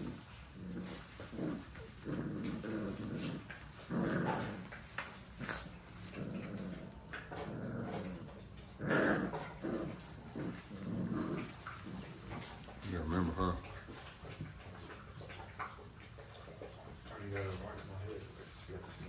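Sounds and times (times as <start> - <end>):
puppies growling: 0.0 - 19.0.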